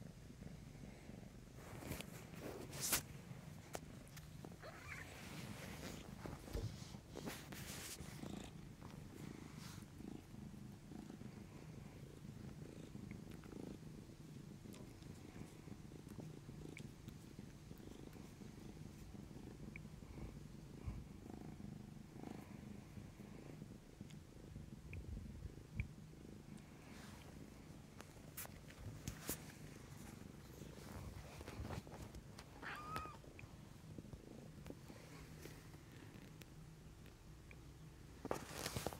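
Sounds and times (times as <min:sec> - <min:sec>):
kitten purring: 0:00.0 - 0:38.9.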